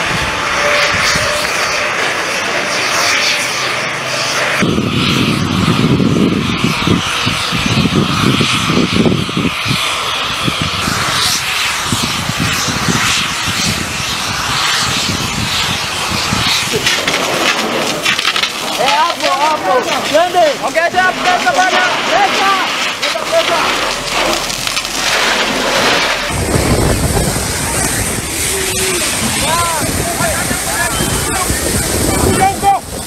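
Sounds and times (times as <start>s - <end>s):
large fire roaring: 0.0s - 33.0s.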